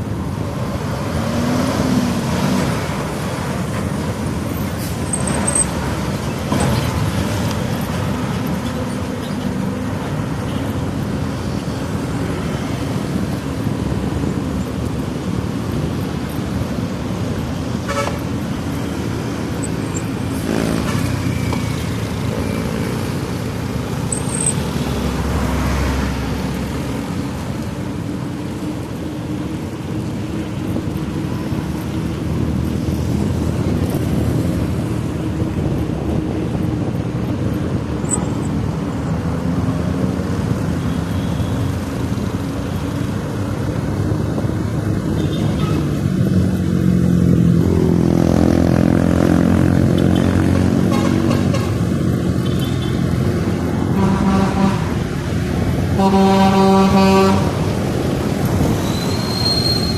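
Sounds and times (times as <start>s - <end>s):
cars and motorcycles passing: 0.0s - 59.9s.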